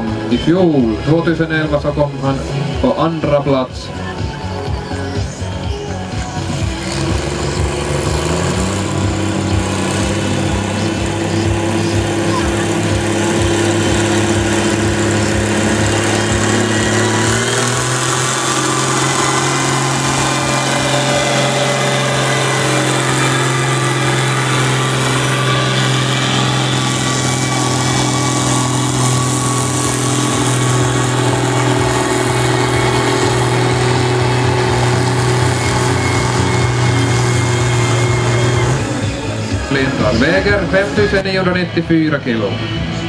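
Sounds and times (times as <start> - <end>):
tractor engine under heavy load: 0.0 - 43.0.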